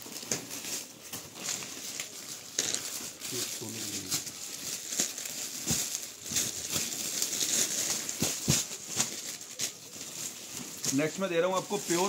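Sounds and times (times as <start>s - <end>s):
plastic packaging rustling: 0.0s - 12.0s
soft knocks of packets: 0.0s - 12.0s.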